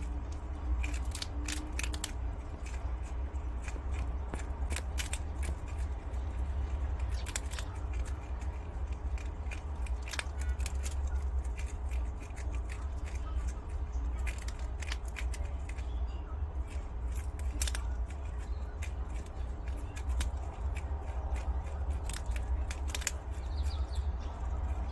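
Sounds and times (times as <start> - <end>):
animals chewing crunchy food: 0.0 - 24.9
steady low hum: 0.0 - 24.9.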